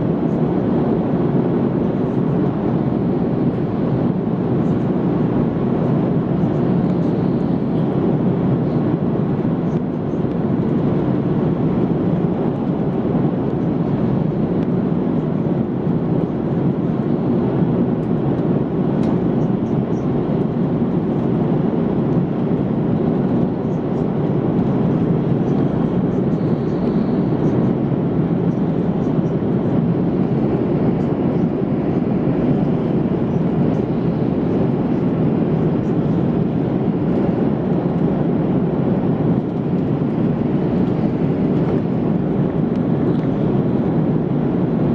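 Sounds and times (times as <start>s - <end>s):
airliner cabin engine rush: 0.0s - 44.9s.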